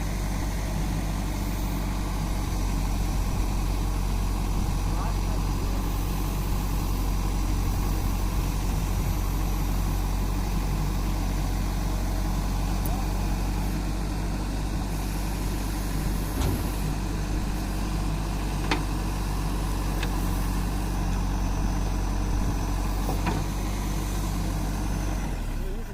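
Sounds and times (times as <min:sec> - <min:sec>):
diesel engine humming: 0:00.0 - 0:25.9.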